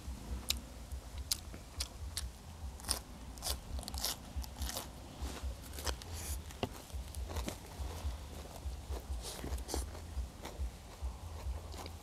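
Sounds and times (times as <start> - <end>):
crisp crunching and chewing: 1.2 - 12.0.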